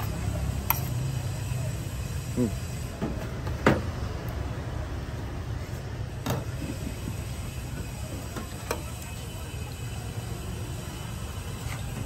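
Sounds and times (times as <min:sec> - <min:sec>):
market background rumble: 0:00.0 - 0:12.0.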